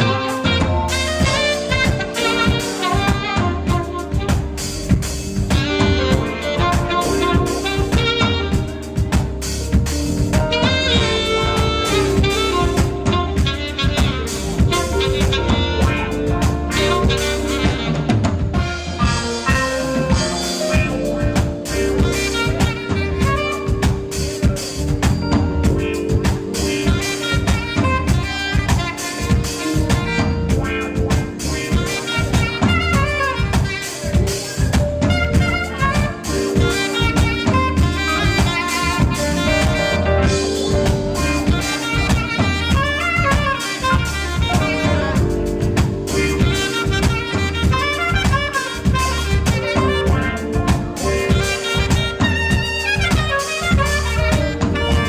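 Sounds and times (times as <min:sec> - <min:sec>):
drum kit beat: 0:00.0 - 0:55.0
saxophone melody: 0:00.0 - 0:55.0.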